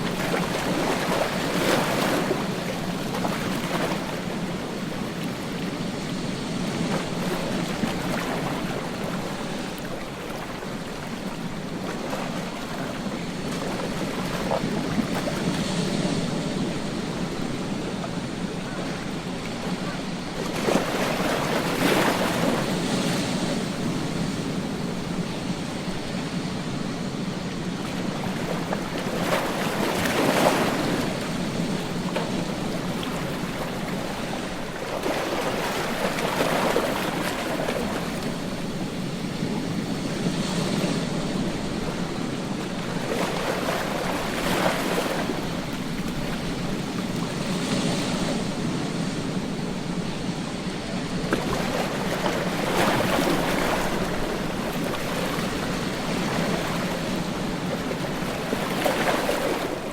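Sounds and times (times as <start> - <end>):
rush of water: 0.0 - 59.9
waves breaking on beach: 0.0 - 59.9.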